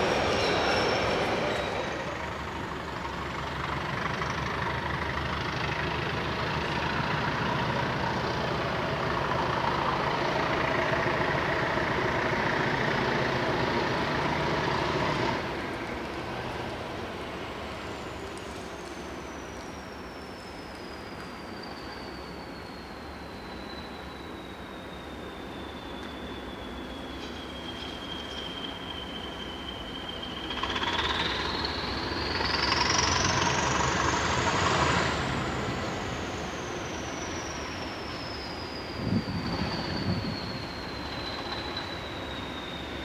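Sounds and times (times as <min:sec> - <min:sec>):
diesel locomotive engines droning: 0:00.0 - 0:43.0.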